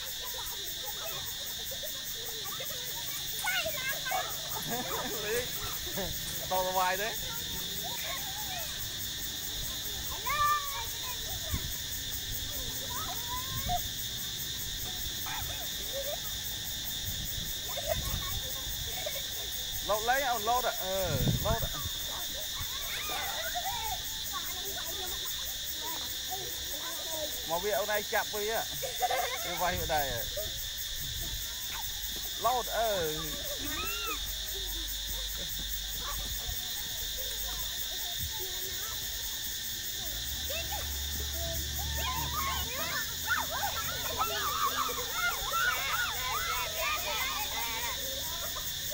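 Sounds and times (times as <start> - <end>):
faint voices: 0.0 - 48.9
insects chirring: 0.0 - 48.9.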